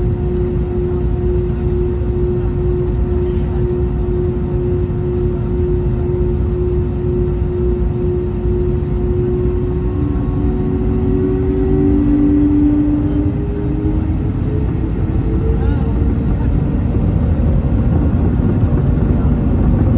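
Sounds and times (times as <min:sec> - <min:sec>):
jet engines rumbling: 0:00.0 - 0:19.9
lower hum rising in pitch: 0:00.0 - 0:19.9.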